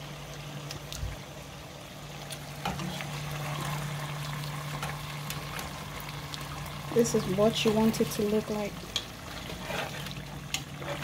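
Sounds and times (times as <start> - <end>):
sauce simmering and sizzling: 0.0 - 11.0.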